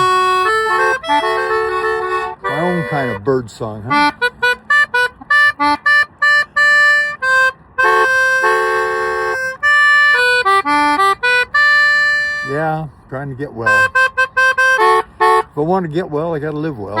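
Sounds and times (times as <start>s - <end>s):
accordion playing tune: 0.0s - 12.9s, 13.5s - 15.6s, 16.5s - 17.0s.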